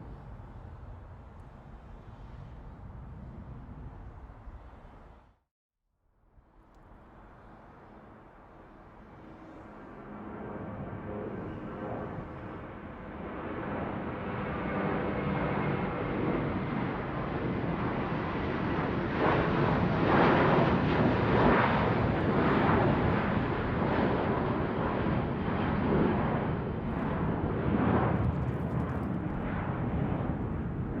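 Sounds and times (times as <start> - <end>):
airplane jet rumble overhead: 0.0 - 5.4, 6.3 - 31.0.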